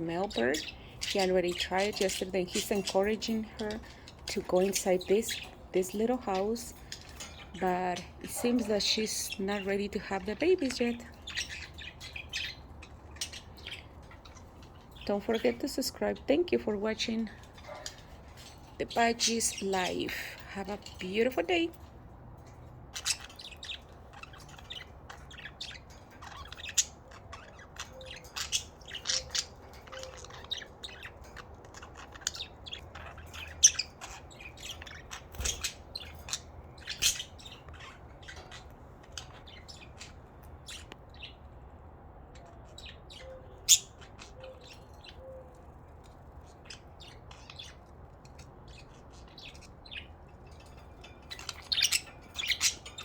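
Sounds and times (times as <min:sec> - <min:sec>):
budgerigars chirping and chattering: 0:00.0 - 0:53.0.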